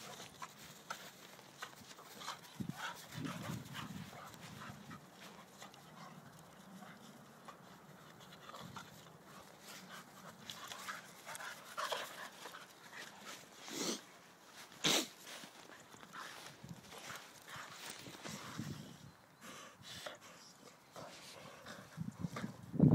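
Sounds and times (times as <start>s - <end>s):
dogs panting: 0.0s - 22.7s.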